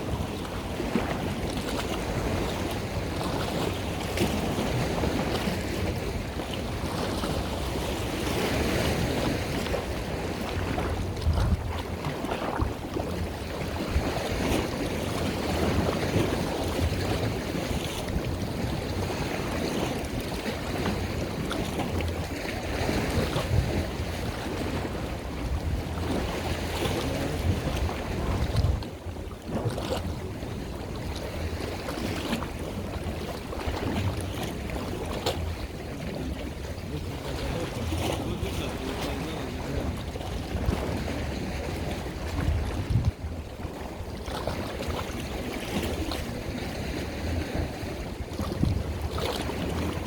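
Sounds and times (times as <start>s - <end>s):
rushing water: 0.0s - 50.0s
wind buffeting microphone: 0.0s - 50.0s.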